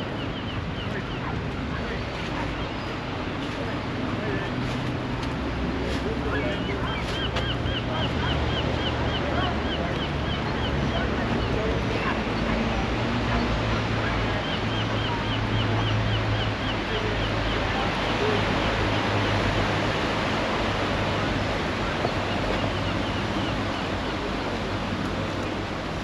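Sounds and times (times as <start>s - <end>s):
sea waves washing on shore: 0.0s - 26.0s.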